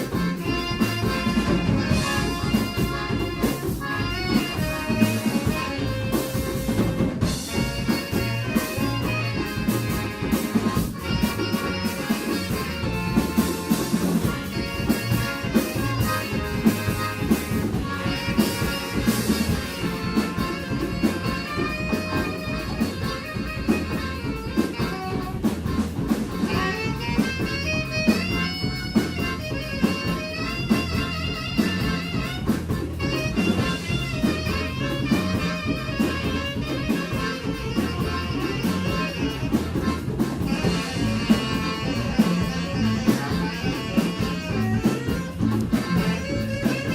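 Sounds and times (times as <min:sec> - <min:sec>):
drum kit: 0:00.0 - 0:46.9
guitar melodic lead: 0:00.0 - 0:46.9
live band playing: 0:00.0 - 0:46.9.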